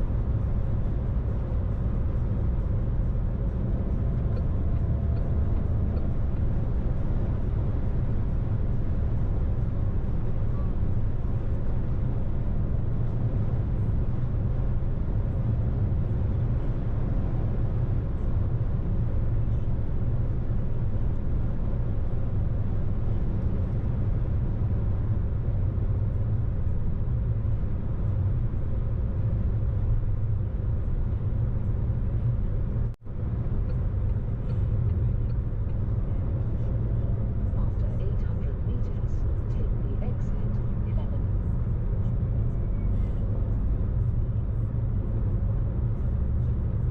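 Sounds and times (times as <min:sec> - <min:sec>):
car driving on road: 0:00.0 - 0:46.9.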